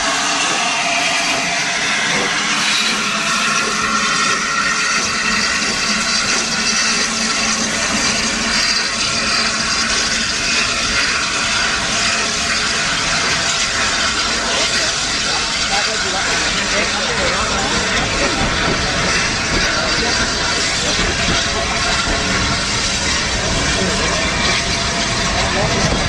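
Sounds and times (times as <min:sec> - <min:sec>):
steam locomotive hissing: 0:00.0 - 0:26.0
train coaches rolling by: 0:00.0 - 0:26.0.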